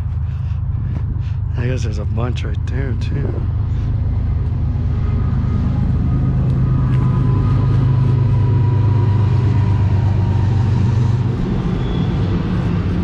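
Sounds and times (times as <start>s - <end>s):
motor vehicle running: 0.0s - 13.0s.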